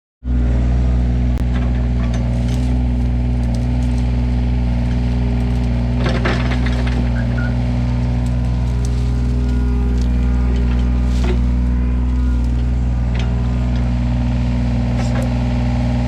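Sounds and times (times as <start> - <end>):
engine running steadily: 0.2 - 16.0.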